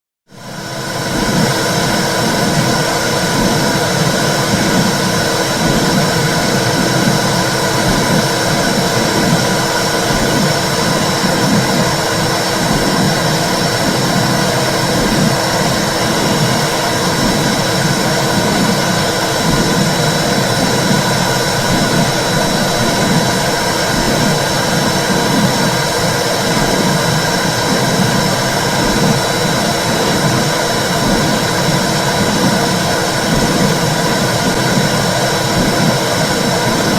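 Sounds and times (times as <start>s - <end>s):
rhythmic low pulsing: 0.3s - 36.9s
steady whooshing rush: 0.6s - 36.9s.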